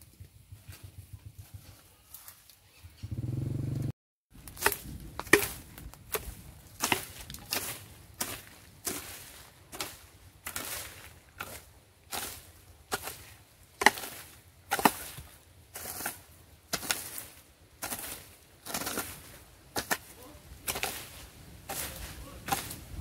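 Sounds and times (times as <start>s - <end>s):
hoe chopping into grassy soil: 4.4s - 23.0s.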